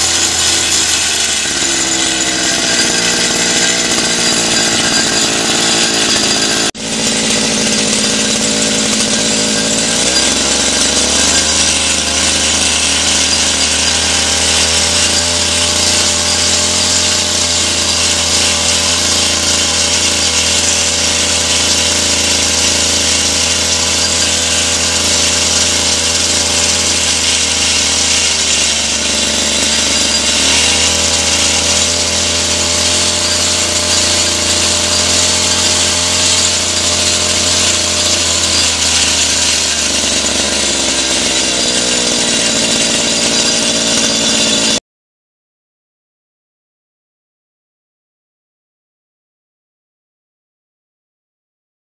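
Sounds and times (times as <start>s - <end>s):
outboard motor running: 0.0s - 44.0s.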